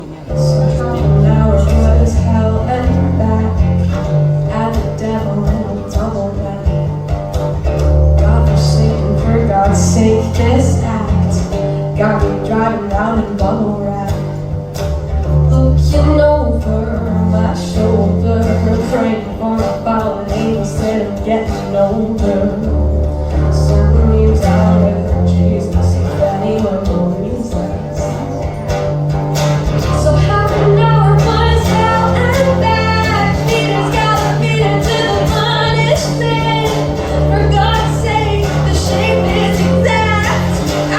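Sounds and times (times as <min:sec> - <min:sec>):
guitar: 0:00.0 - 0:40.9
live country-blues song: 0:00.0 - 0:40.9
low bass notes: 0:00.2 - 0:19.5, 0:21.2 - 0:40.9.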